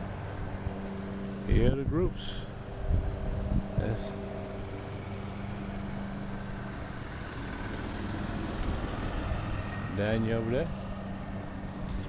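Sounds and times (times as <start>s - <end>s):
engine idling: 2.2s - 12.0s.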